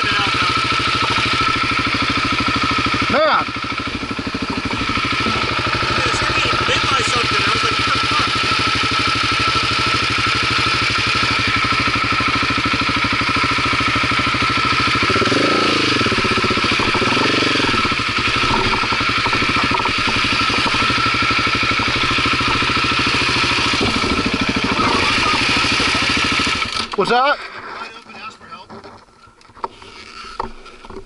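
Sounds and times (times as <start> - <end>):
dirt bike engine idling and revving: 0.0 - 27.9.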